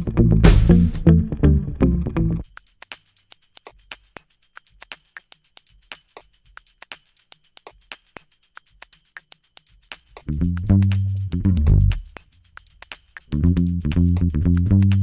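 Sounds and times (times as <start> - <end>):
tambourine jingle: 2.4 - 15.0.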